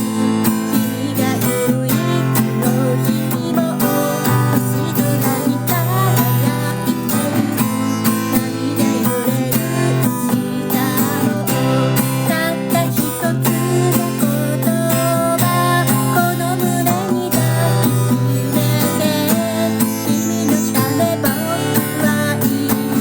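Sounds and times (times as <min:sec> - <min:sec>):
acoustic guitar strumming: 0:00.0 - 0:23.0
person singing: 0:00.0 - 0:23.0.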